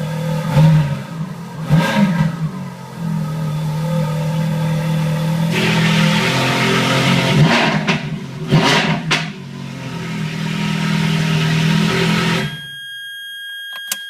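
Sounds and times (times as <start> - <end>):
sports car engine idling and revving: 0.0 - 12.6.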